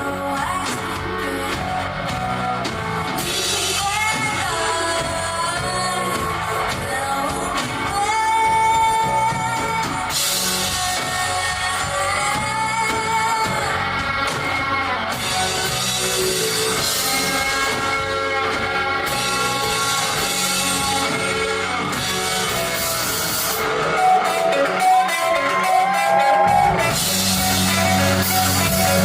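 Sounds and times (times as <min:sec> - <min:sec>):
drum kit: 0:00.0 - 0:29.0
electric guitar: 0:00.0 - 0:29.0
person singing: 0:00.0 - 0:29.0.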